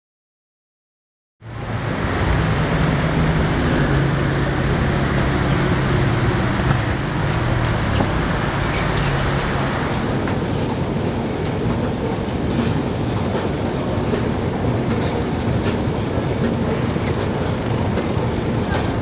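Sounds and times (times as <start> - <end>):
city road traffic: 1.4 - 19.0
low engine drone: 1.4 - 19.0.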